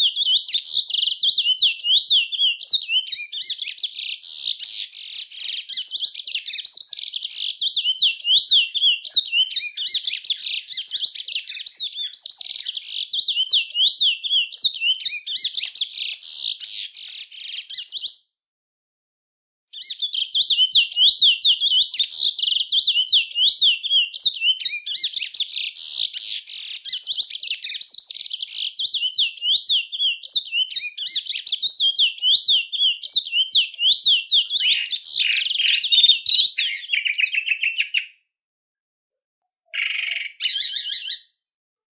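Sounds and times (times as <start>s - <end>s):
songbird twittering song: 0.0s - 18.2s, 19.7s - 38.2s, 39.6s - 41.3s.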